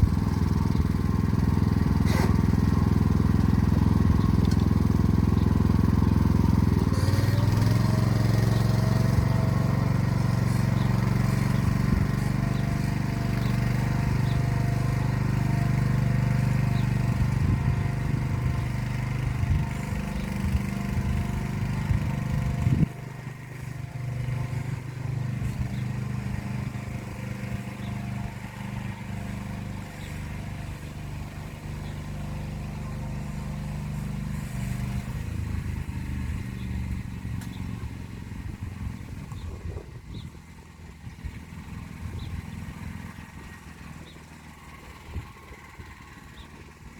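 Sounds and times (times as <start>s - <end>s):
tractor engine under load: 0.0s - 46.9s.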